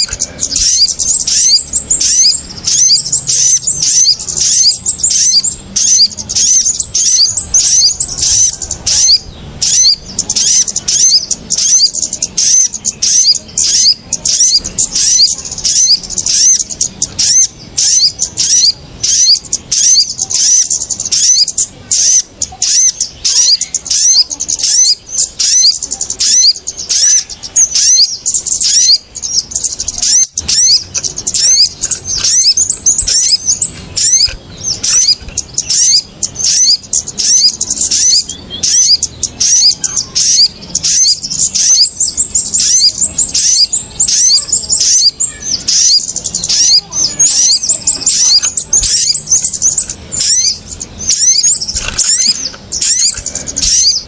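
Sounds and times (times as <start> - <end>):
small birds chirping rapidly: 0.0 - 54.0.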